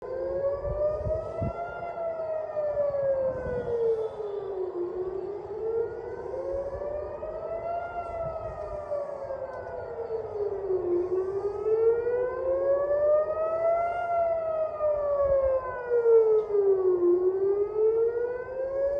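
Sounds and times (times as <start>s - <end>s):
warning siren wailing: 0.0s - 18.9s.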